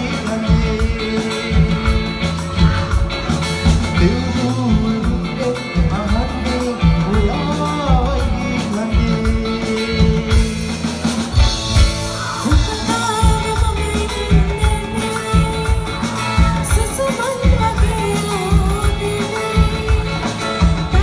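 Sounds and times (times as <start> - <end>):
person singing: 0.0 - 10.9, 12.3 - 21.0
bass and drums beat: 0.0 - 21.0
live band music: 0.0 - 21.0.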